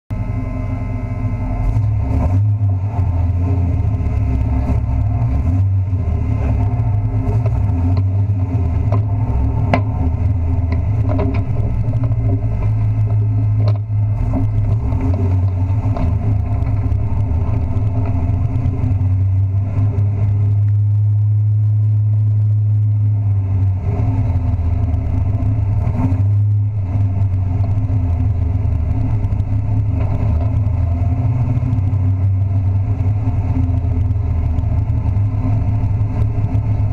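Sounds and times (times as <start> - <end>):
truck engine running: 0.1 - 36.9.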